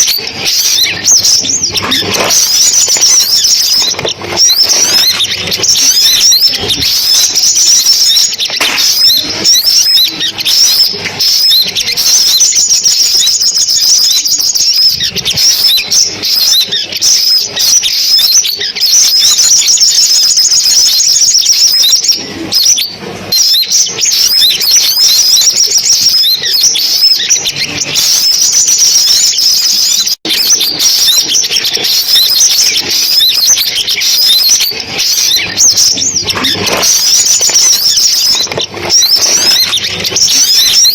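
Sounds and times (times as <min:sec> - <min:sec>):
sunbirds singing: 0:00.0 - 0:40.9.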